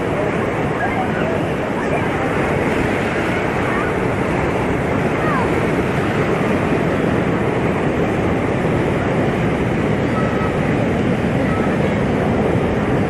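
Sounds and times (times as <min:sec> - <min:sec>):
waves washing onto shore: 0:00.0 - 0:13.0.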